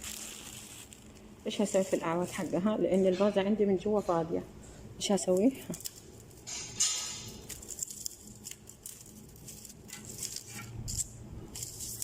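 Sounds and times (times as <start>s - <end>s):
dried stems rustling: 0.0s - 2.9s, 5.2s - 12.0s.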